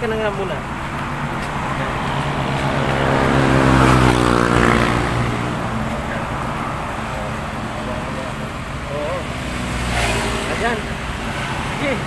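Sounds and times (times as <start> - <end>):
traffic noise: 0.0 - 12.0
vehicle passing by: 0.0 - 12.0.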